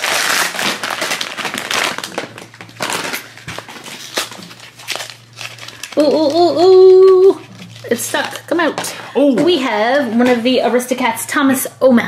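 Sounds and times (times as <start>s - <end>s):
foil bag crinkling: 0.0s - 10.4s.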